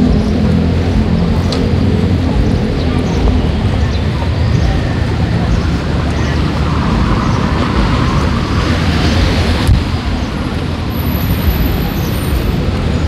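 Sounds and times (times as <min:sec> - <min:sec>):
cars passing on street: 0:00.0 - 0:13.0.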